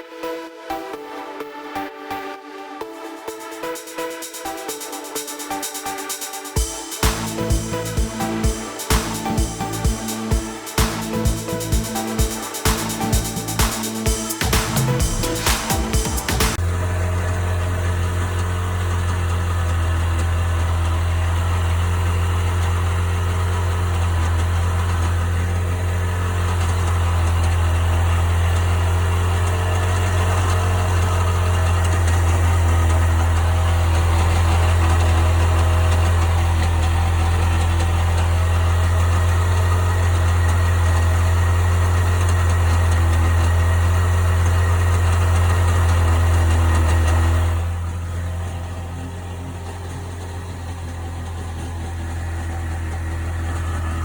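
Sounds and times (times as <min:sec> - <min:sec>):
two-stroke engine idling: 0:06.6 - 0:54.0.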